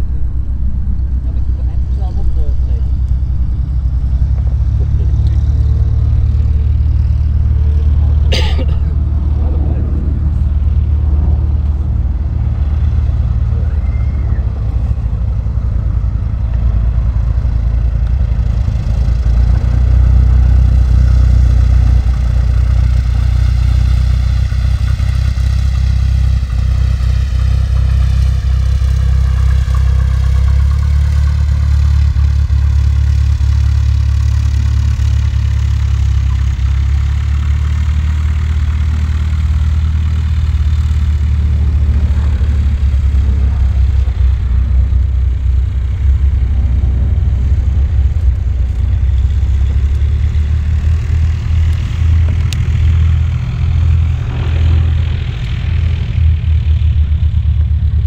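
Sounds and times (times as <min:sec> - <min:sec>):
low rumble: 0:00.0 - 0:58.0
propeller plane engine droning: 0:00.0 - 0:58.0.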